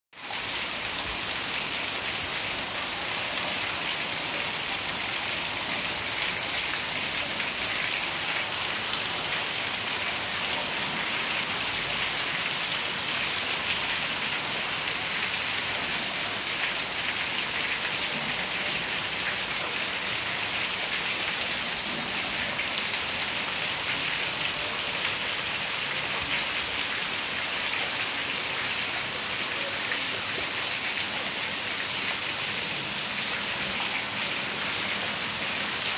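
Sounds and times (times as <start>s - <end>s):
heavy rain on concrete and roofs: 0.1s - 35.9s.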